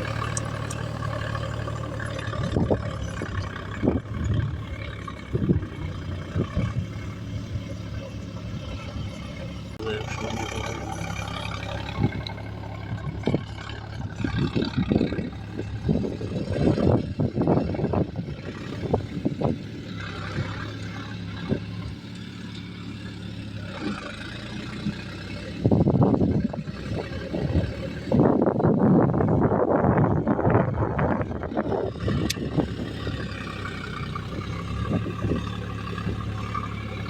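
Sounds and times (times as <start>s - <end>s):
clattering knocks and rumbling: 0.0s - 37.0s
diesel machinery engine running: 0.0s - 37.0s.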